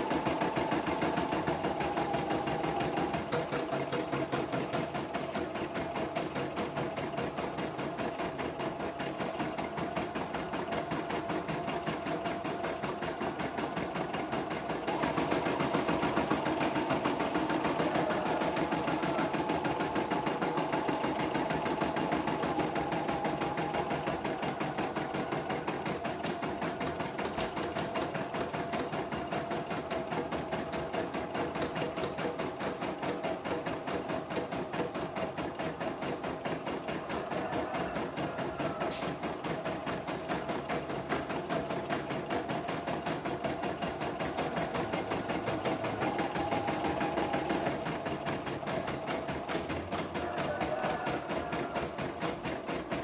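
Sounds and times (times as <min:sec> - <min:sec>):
embroidery machine needle chatter: 0:00.0 - 0:53.0.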